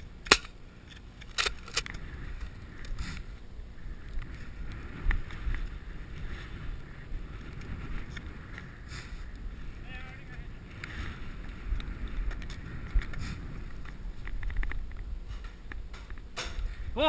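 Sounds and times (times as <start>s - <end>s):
wind buffeting microphone: 1.4s - 17.0s.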